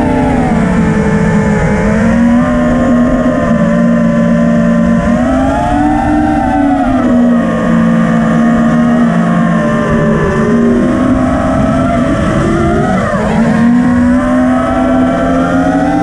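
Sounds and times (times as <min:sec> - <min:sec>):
quadcopter motors whining: 0:00.0 - 0:16.0
wind rush: 0:00.0 - 0:16.0.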